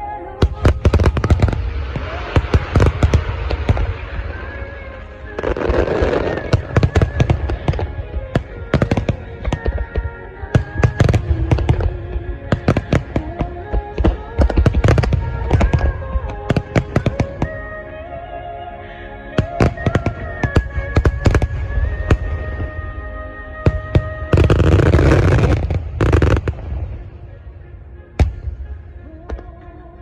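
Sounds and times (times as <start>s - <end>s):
fireworks bangs and crackles: 0.4s - 17.8s, 19.4s - 23.0s, 23.6s - 27.6s, 28.2s - 29.6s.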